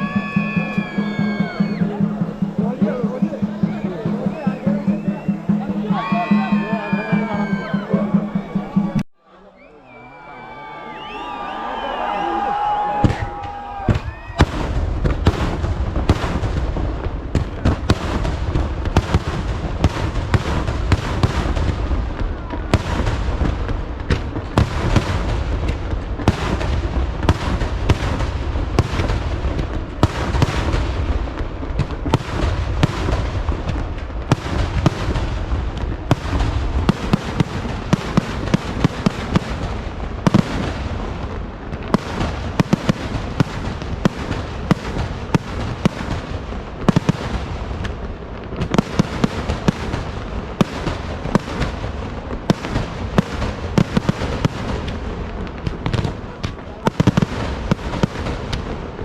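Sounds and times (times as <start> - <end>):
fireworks explosions: 0.0 - 9.1, 11.0 - 59.0.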